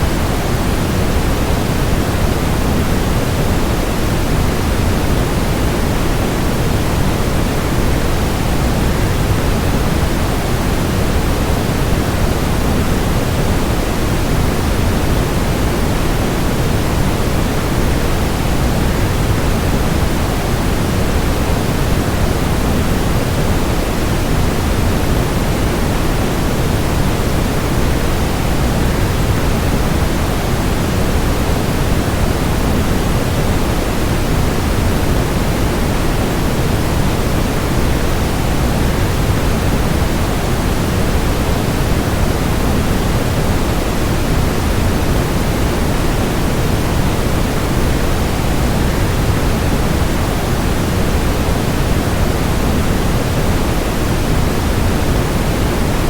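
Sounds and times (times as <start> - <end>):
white noise: 0.0 - 56.0.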